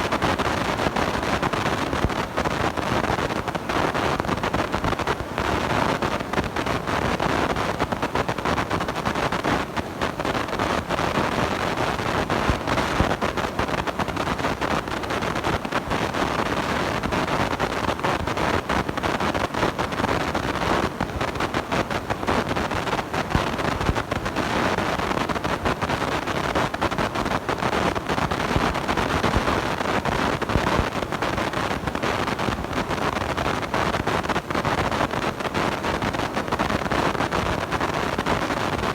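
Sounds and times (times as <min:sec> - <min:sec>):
distorted crackling microphone noise: 0:00.0 - 0:38.9.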